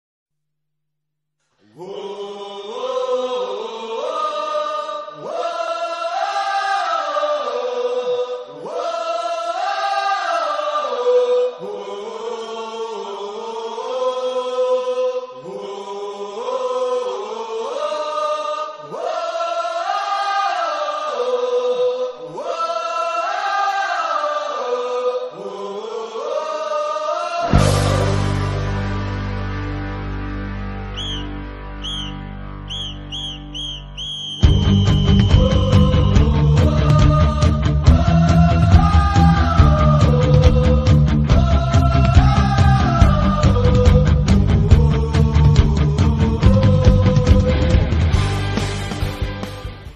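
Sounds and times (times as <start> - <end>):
voices chanting in unison: 1.6 - 28.8, 32.7 - 48.2.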